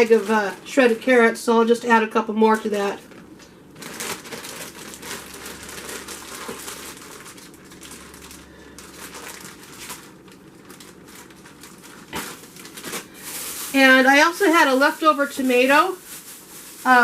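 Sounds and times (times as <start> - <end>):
plastic bag crinkling: 0.0 - 1.3, 2.4 - 17.0.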